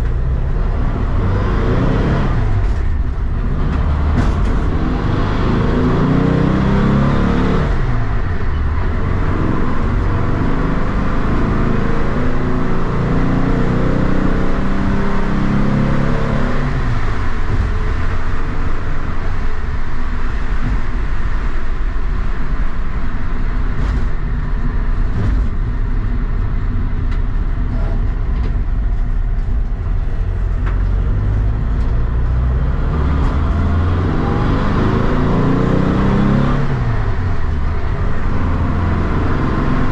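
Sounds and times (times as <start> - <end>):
road noise: 0.0 - 39.9
van engine accelerating: 0.0 - 39.9.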